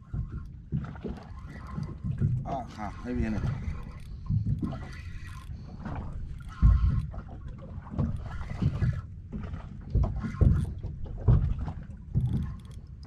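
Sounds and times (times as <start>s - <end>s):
water slapping against boat hull: 0.0s - 13.0s.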